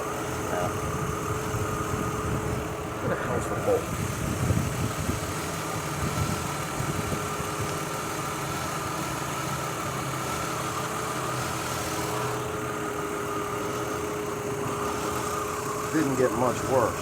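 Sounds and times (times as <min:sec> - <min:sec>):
car engine idling roughly: 0:00.0 - 0:17.0.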